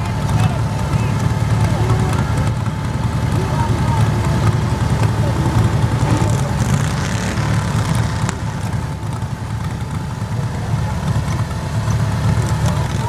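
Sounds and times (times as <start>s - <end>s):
garden tractor engine running: 0.0s - 13.0s.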